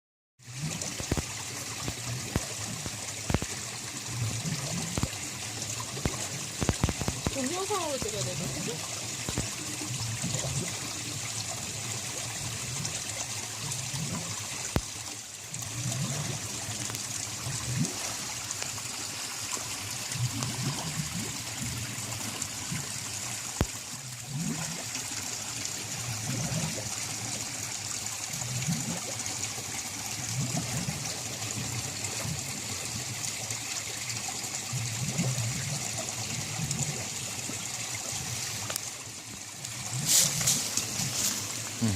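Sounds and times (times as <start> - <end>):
stream of water trickling: 0.4 - 41.9.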